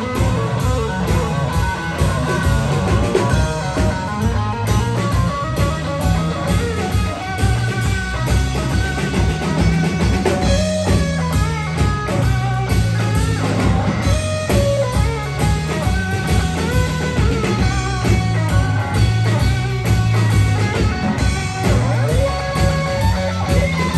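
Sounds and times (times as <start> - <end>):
bass guitar: 0.0 - 23.9
drum kit: 0.0 - 23.9
electric guitar lead lines: 0.0 - 23.9.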